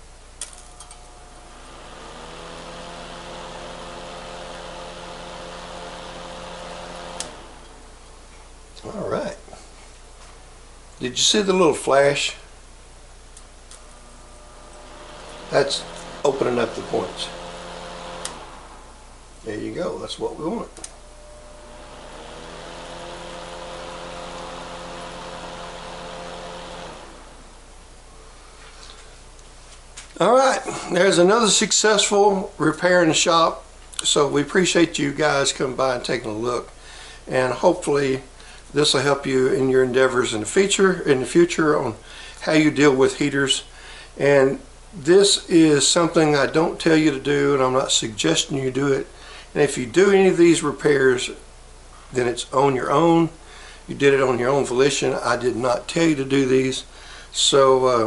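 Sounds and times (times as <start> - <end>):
heater fan motor humming: 0.0 - 58.0.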